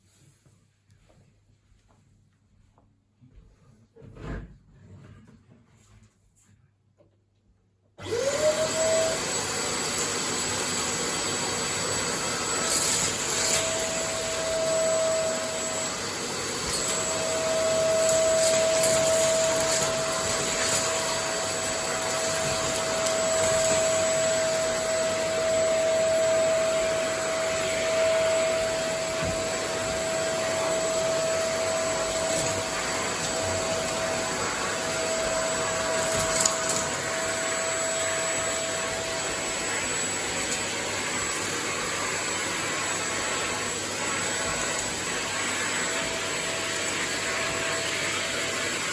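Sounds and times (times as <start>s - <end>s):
vacuum cleaner motor whine: 8.0s - 48.9s.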